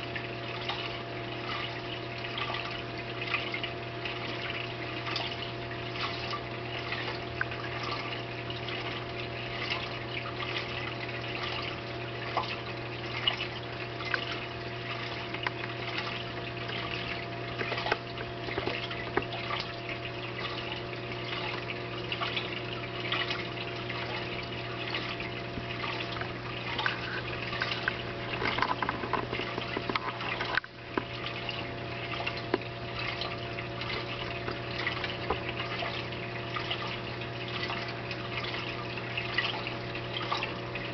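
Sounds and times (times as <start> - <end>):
pump hum: 0.0 - 40.9
water trickling and bubbling: 0.0 - 40.9.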